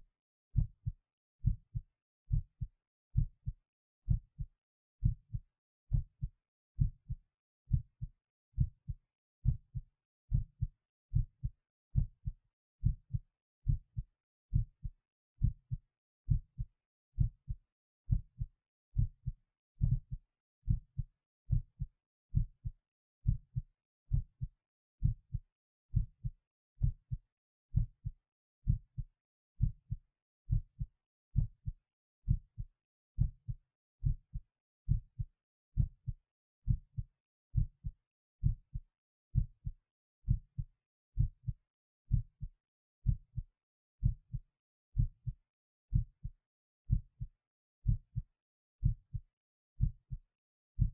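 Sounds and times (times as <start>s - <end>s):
heartbeat lub-dub thumps: 0.6s - 29.0s, 29.6s - 37.0s, 37.6s - 39.7s, 41.2s - 43.4s, 44.0s - 44.4s, 45.0s - 46.3s, 46.9s - 48.2s, 48.8s - 49.2s, 49.8s - 50.2s.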